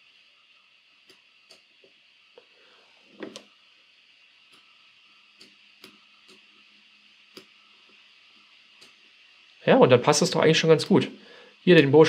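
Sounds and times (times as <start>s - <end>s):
steady faint hiss: 0.0s - 12.0s.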